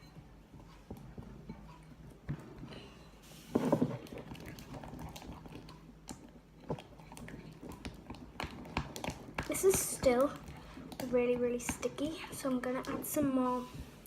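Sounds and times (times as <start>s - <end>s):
sticky slime squelching: 0.6s - 14.0s.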